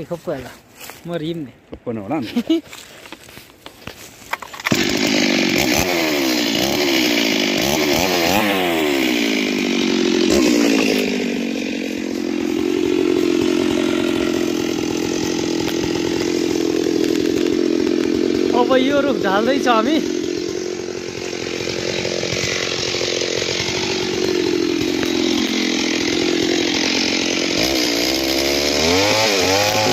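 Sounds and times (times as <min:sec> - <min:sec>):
chainsaw starting and revving: 0:02.2 - 0:29.9.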